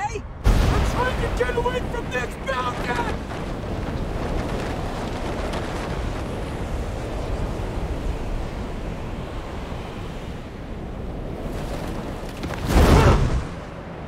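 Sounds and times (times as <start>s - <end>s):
steady rushing noise: 0.3s - 14.0s.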